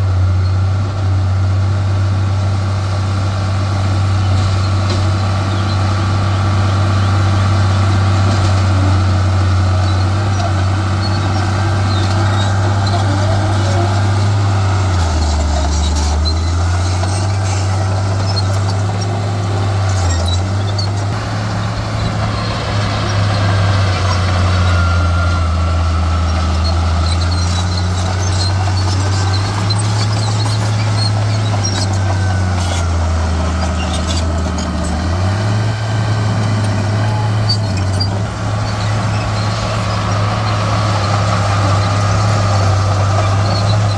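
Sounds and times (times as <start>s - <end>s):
diesel earthmoving machinery drone: 0.0s - 43.9s.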